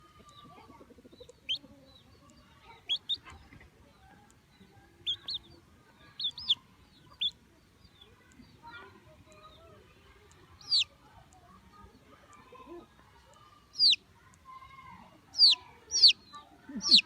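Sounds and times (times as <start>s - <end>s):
chicks peeping: 0.0s - 14.1s, 14.7s - 17.0s
faint background peeping: 0.0s - 17.0s.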